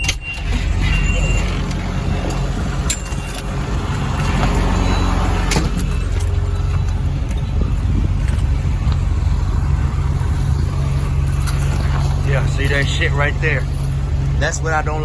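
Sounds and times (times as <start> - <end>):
loader engine running: 0.0 - 15.0.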